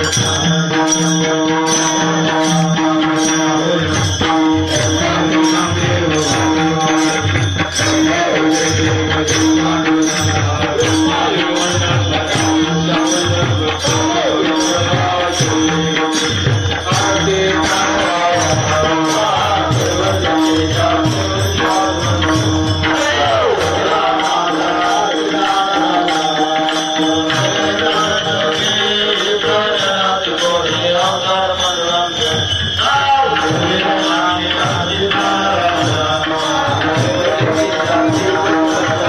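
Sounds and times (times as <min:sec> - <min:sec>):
small hand cymbals striking: 0:00.0 - 0:39.0
voices singing: 0:00.0 - 0:39.0.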